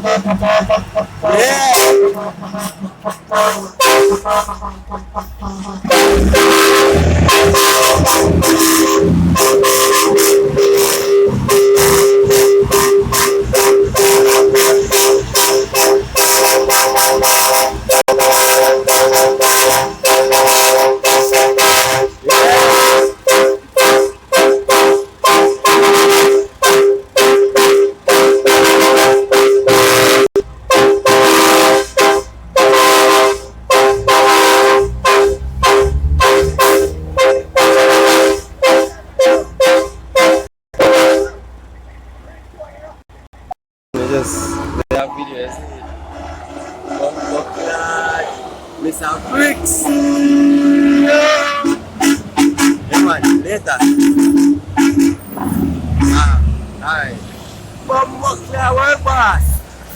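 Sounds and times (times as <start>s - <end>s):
steady horn tone: 0.0s - 41.8s, 43.9s - 59.9s
truck horns honking short blasts: 0.0s - 41.8s, 43.9s - 48.4s, 49.0s - 57.3s, 57.9s - 59.9s.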